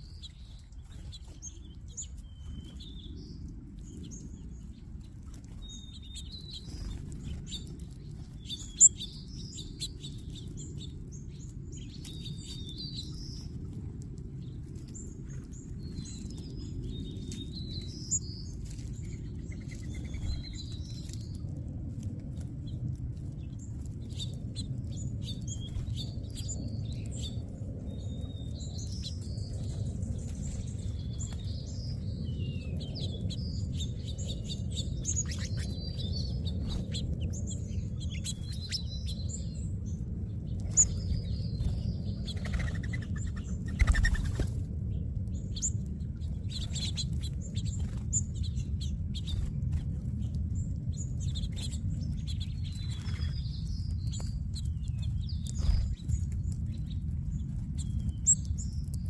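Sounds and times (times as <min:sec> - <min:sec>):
low rumble: 0:00.0 - 0:59.0
small birds chirping: 0:00.0 - 0:59.0.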